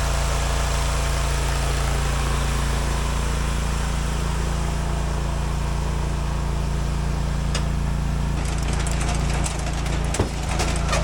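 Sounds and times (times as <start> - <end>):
gas engine idling: 0.0 - 11.0.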